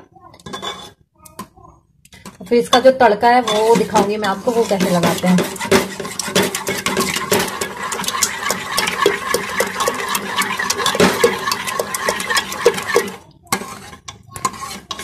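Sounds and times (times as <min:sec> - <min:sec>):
ladle stirring thick food in pot: 0:02.2 - 0:15.0.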